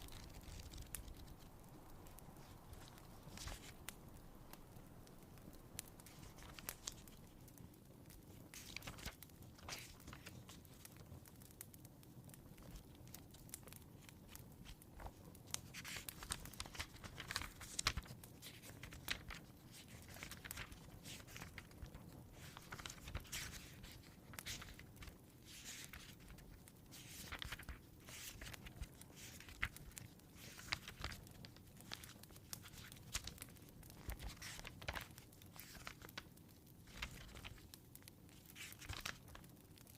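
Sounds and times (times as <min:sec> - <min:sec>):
fire crackling in a fireplace: 0:00.0 - 0:39.9.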